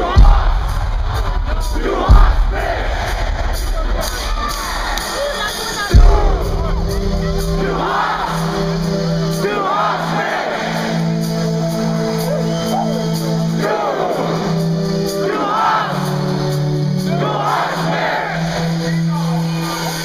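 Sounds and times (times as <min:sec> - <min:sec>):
crowd shouting and singing: 0:00.0 - 0:20.0.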